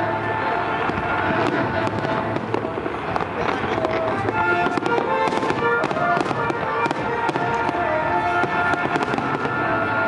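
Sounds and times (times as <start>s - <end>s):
fireworks bursting and crackling: 0.0s - 10.0s
music playing: 0.0s - 10.0s.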